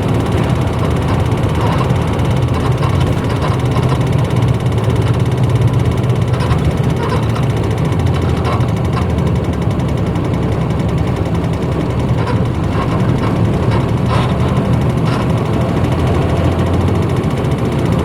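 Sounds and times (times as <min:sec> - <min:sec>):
bus diesel engine rumble: 0:00.0 - 0:18.0
light rattles: 0:00.0 - 0:18.0.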